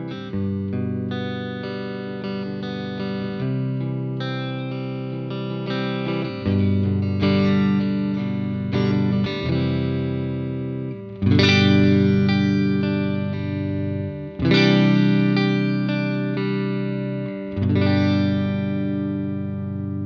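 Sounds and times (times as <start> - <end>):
overdriven electric guitar chords: 0.0 - 20.0.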